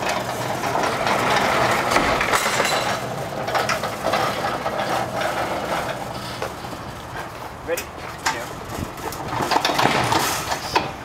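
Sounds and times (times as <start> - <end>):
load knocking and clattering: 0.0 - 6.0, 8.2 - 11.0
crate casters rolling over asphalt: 0.0 - 11.0.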